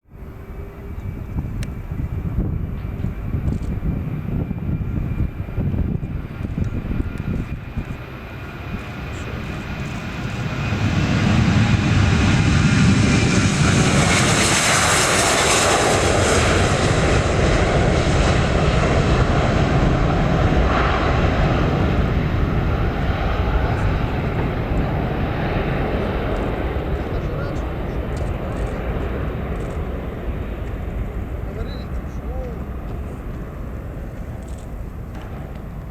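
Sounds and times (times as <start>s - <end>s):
jet engines at takeoff power: 0.0s - 35.9s
jet engine hiss: 0.2s - 35.9s.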